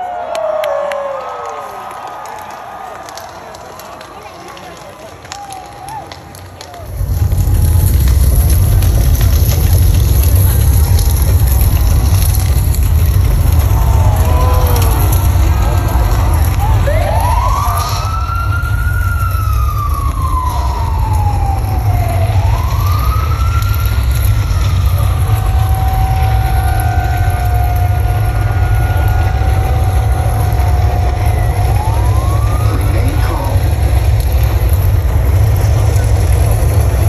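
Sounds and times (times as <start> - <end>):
deep bass rumble: 6.8 - 37.0
wailing siren sound effect: 6.8 - 37.0.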